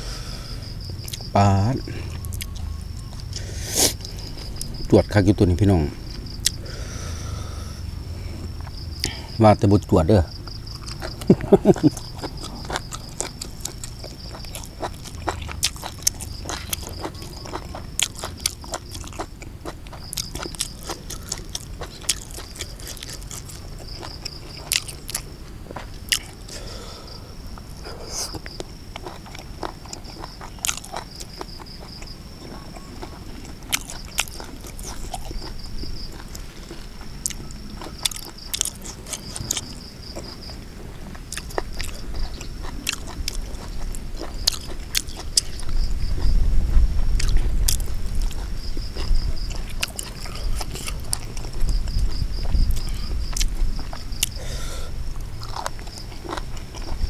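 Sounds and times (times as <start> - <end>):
insects trilling: 0.0 - 57.0
person chewing crunchy food: 0.0 - 57.0.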